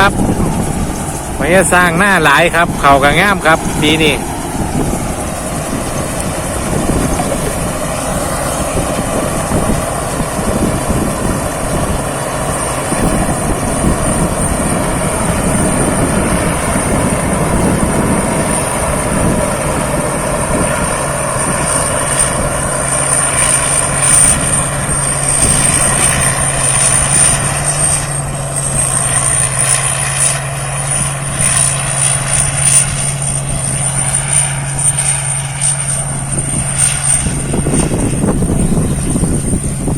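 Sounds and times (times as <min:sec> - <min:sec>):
combine harvester running: 0:00.0 - 0:39.9
steady high whine: 0:00.0 - 0:39.9
steady low hum: 0:00.0 - 0:39.9.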